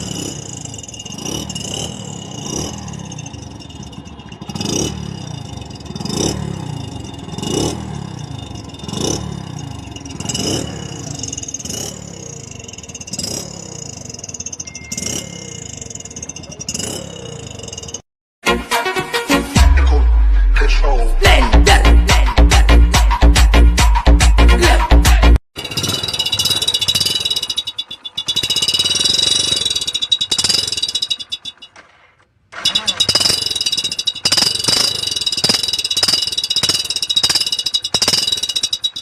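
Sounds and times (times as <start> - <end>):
exhaust crack: 0.0 - 18.0, 25.6 - 39.0
motorcycle engine revving: 0.0 - 18.1, 21.4 - 39.0.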